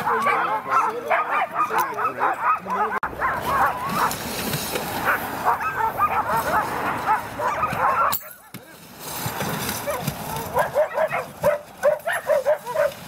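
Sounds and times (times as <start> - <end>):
sled dogs yipping and howling: 0.0 - 8.8, 9.6 - 13.0.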